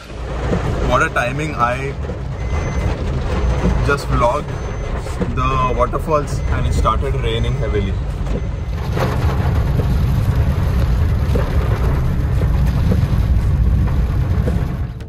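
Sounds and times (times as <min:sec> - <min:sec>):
heavy rain on car: 0:00.0 - 0:15.0
tyre and engine rumble: 0:00.0 - 0:15.0.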